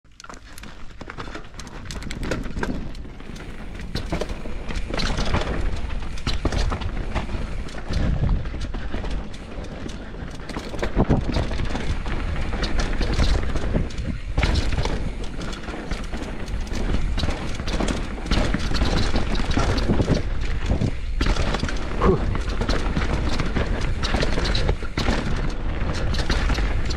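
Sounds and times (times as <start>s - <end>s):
bike chain and frame rattling: 0.1s - 26.9s
tyres running over dirt and stones: 0.1s - 26.9s.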